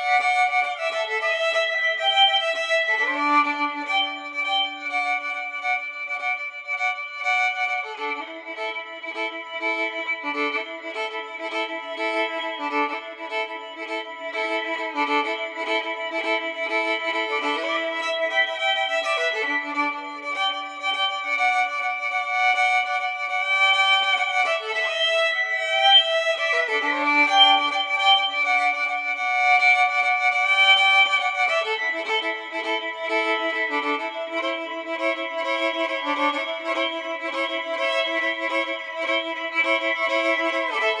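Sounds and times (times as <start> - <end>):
music of held high notes: 0.0 - 41.0.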